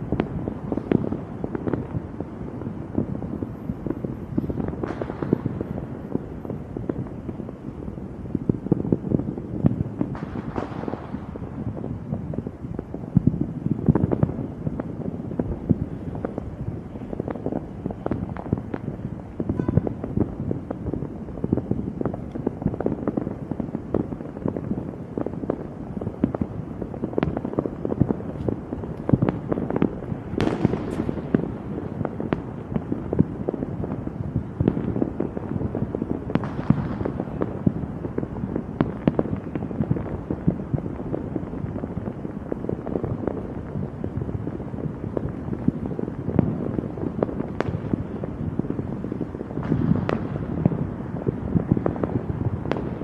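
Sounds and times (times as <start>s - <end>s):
fireworks cracking and banging: 0.0s - 53.0s.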